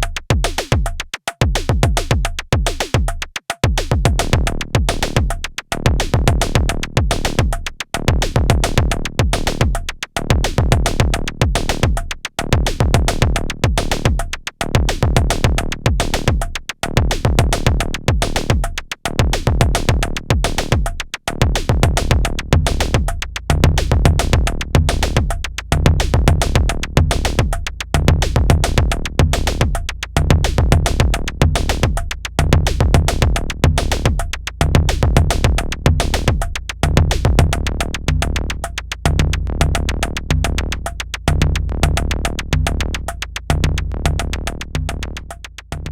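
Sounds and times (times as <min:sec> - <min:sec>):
fast electronic drum pattern: 0:00.0 - 0:45.9.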